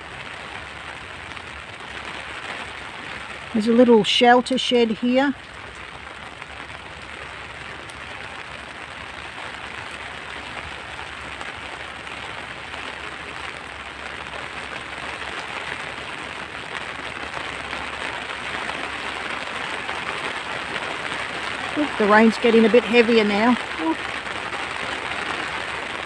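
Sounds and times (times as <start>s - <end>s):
rain pattering on an umbrella: 0.0s - 26.0s.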